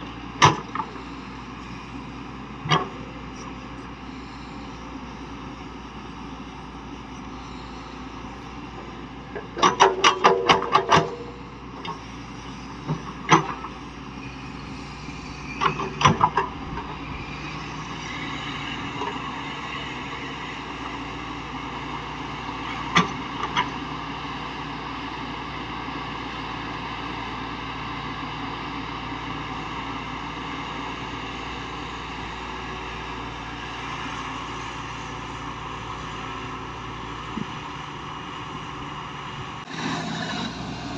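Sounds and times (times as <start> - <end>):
heavy machinery engine running: 0.0 - 40.9.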